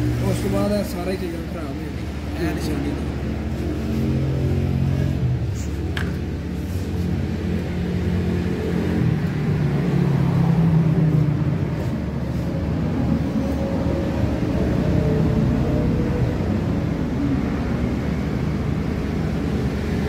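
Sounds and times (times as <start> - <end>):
engine running with low rumble: 0.0 - 20.0.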